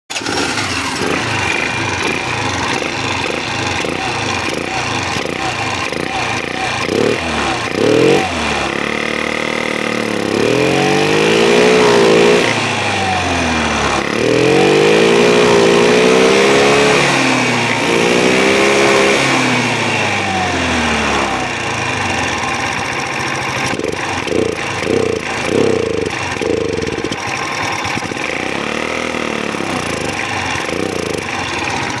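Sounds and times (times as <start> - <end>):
scooter engine revving and idling: 0.1 - 32.0.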